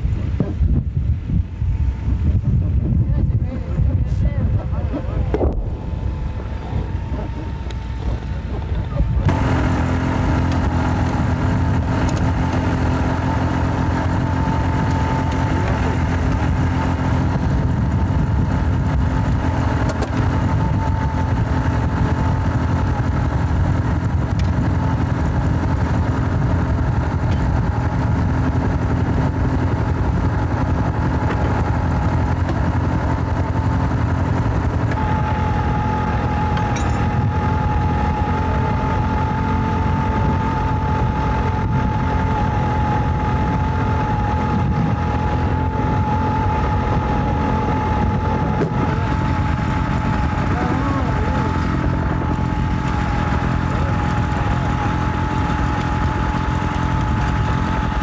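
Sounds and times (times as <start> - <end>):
engine droning with a whine: 0.0 - 58.0.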